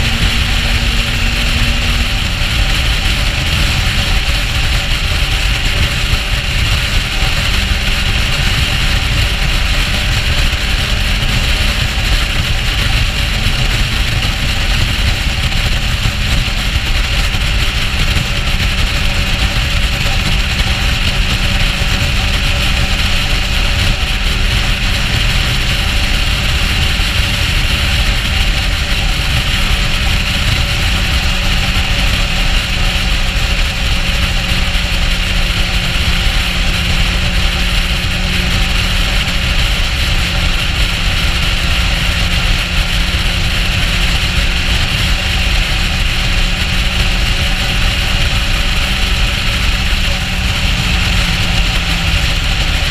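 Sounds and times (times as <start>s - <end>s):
motorcycle engine running: 0.0s - 52.9s
wind rushing on microphone: 0.0s - 52.9s.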